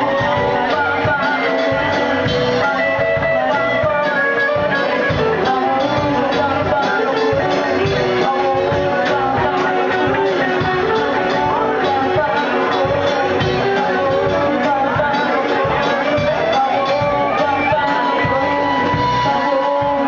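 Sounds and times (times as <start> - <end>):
conga drums: 0.0 - 20.0
live band playing: 0.0 - 20.0
person singing: 0.0 - 20.0.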